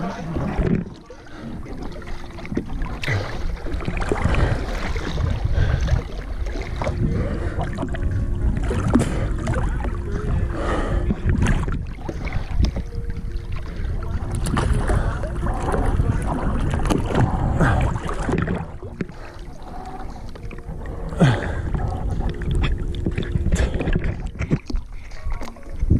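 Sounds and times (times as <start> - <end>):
sea water sloshing and splashing: 0.0 - 25.9
wind on microphone: 2.5 - 19.2, 20.0 - 25.9.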